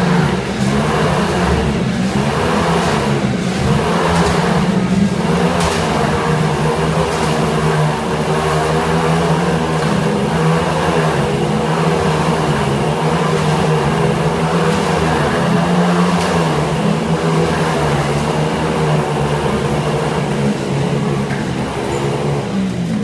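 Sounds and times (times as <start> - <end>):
motorcycle engines running hard: 0.0 - 23.0.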